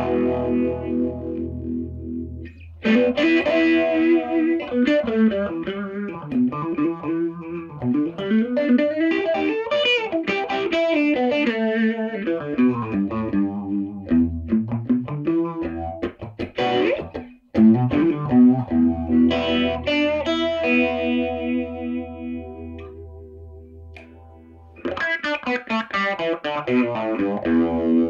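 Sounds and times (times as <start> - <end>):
electric guitar with vibe effect: 0.0 - 28.0.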